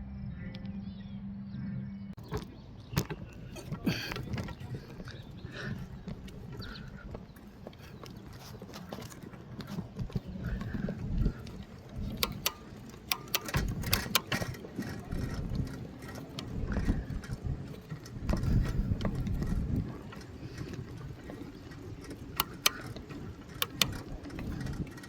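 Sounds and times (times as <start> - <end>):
bicycle clicks and rattles: 2.2 - 25.0
wind on microphone: 3.2 - 25.0.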